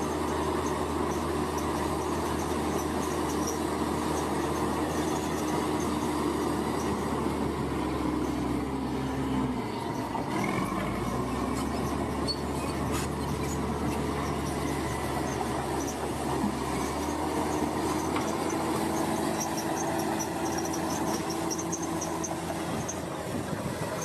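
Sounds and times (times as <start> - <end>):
diesel machinery engine rumble: 0.0 - 24.0.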